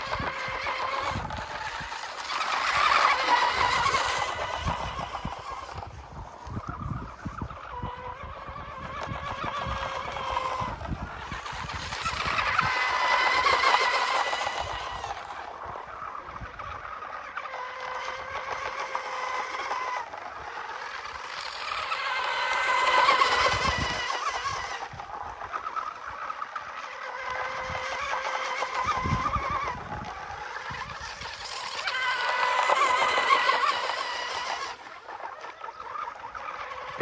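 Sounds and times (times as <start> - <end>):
model boat motor whining: 0.0 - 37.0.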